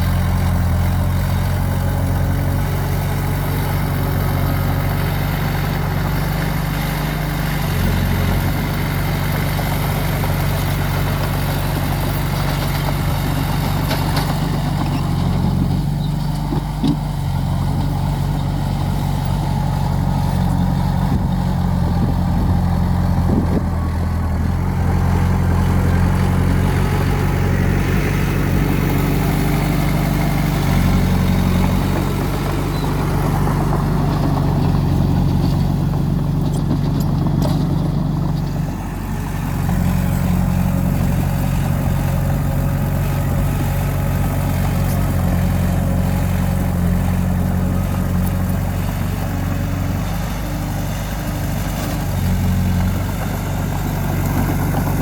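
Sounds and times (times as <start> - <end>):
heavy machinery diesel engine running: 0.0 - 55.0.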